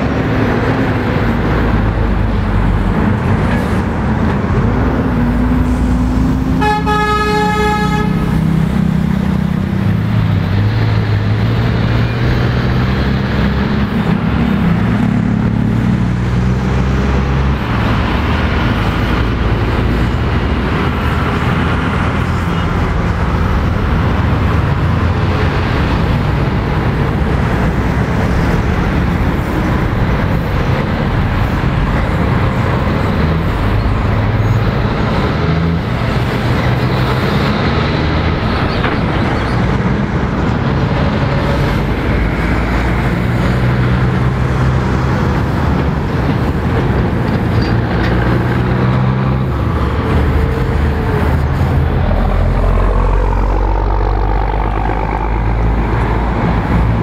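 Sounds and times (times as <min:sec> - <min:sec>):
diesel lorries passing: 0:00.0 - 0:57.0.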